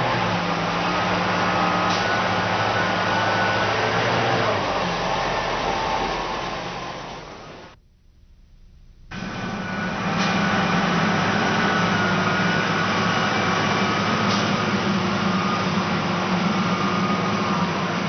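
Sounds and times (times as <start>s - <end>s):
diesel truck engine under load: 0.0s - 7.8s, 9.1s - 18.0s.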